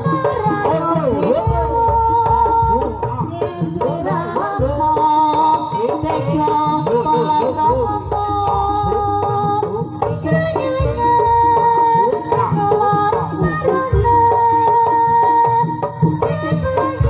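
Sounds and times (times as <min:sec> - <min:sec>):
hand drums played fast: 0:00.0 - 0:17.0.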